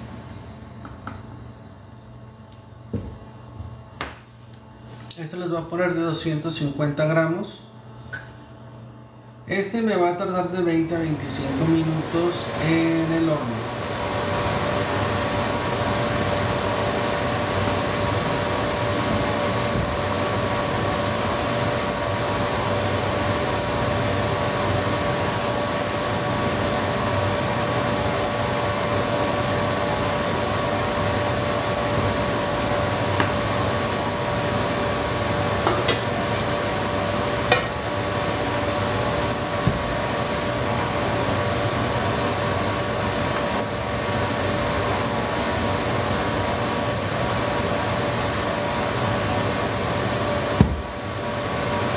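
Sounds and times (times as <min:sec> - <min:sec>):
fan-like machine hum: 0:00.0 - 0:51.9.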